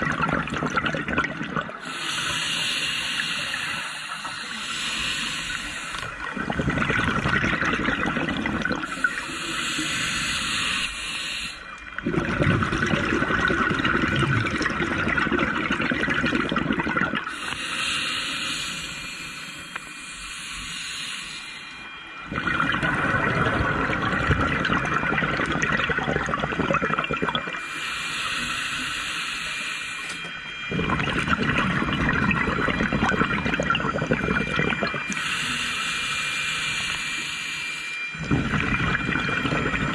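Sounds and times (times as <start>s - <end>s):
scuba regulator bubbling exhales: 0.0s - 11.0s, 12.0s - 19.0s, 22.2s - 29.0s, 30.1s - 35.8s, 38.2s - 39.9s
hissing inhale through regulator: 1.7s - 13.5s, 17.2s - 26.6s, 27.4s - 39.9s.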